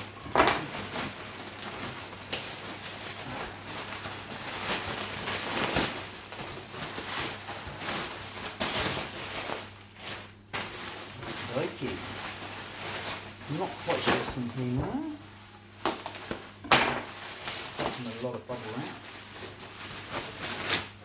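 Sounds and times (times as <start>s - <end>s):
plastic and bubble wrap crinkling: 0.0s - 21.0s.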